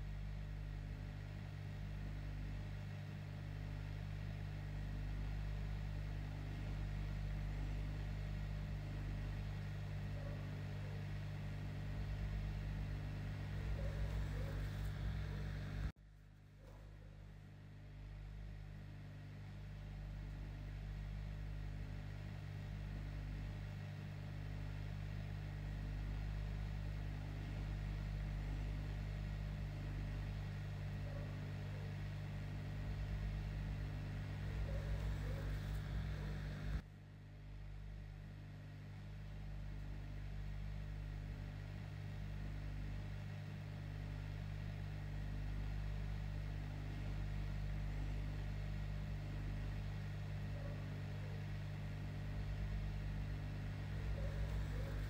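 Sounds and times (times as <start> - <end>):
low hum of small fan: 0.0 - 55.0.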